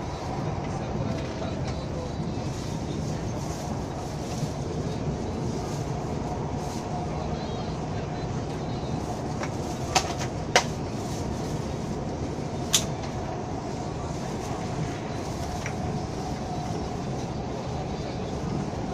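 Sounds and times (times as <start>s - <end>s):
train rumbling along track: 0.0s - 18.9s.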